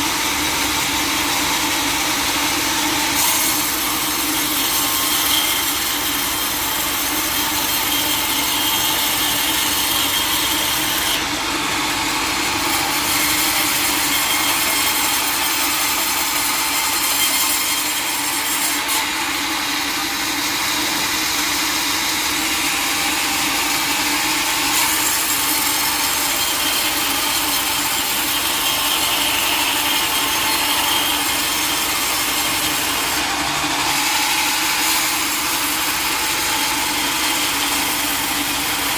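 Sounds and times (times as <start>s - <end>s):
saw cutting through wood: 0.0s - 38.9s.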